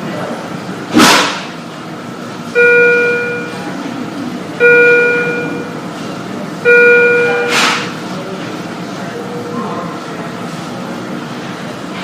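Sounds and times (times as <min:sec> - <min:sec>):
murmur of room noise: 0:00.0 - 0:12.0.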